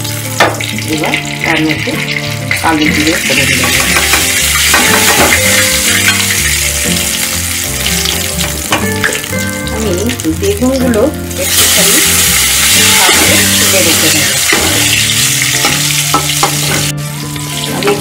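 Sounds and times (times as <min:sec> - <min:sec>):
hot oil sizzling: 0:00.0 - 0:18.0.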